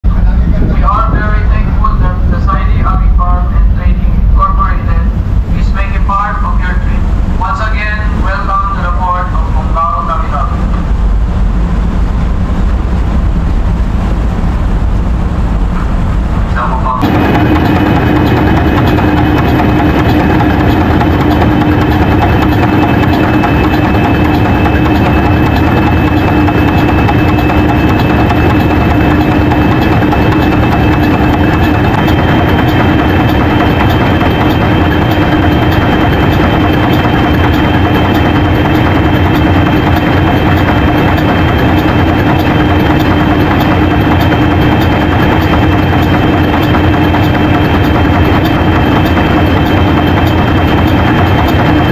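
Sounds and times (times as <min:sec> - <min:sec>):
diesel engines droning: 0:00.1 - 0:51.9
faint high whine: 0:00.1 - 0:51.9.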